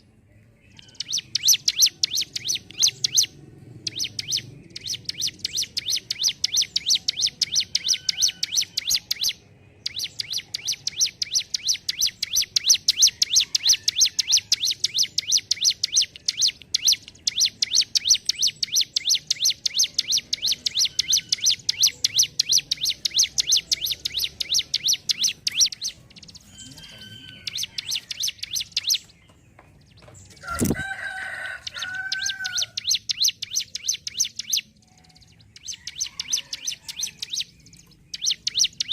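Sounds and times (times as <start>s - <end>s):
bird singing high ticking notes: 0.0s - 38.9s.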